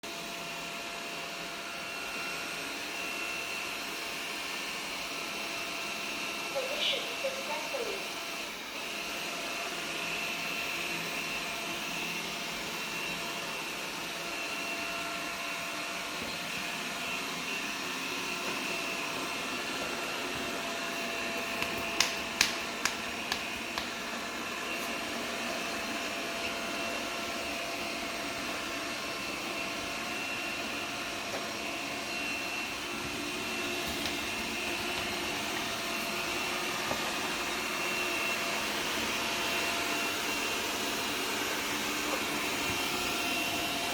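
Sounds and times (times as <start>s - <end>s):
robot vacuum whirring: 5.5s - 43.9s.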